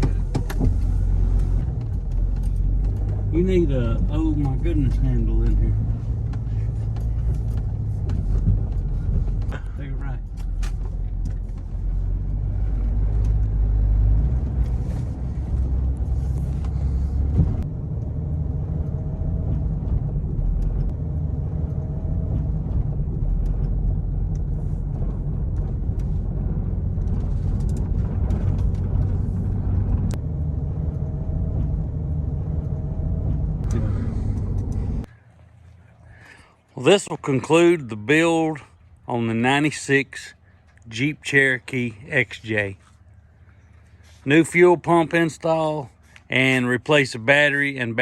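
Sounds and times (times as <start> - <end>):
car engine rumbling: 0.0 - 48.0.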